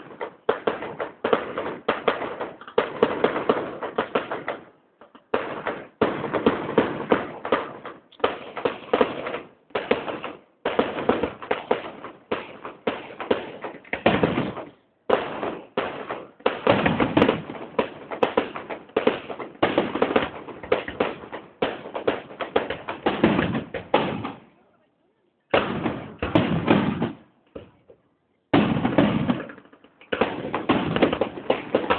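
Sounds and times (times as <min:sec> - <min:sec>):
fireworks bangs and crackles: 0:00.0 - 0:24.6, 0:25.4 - 0:31.9.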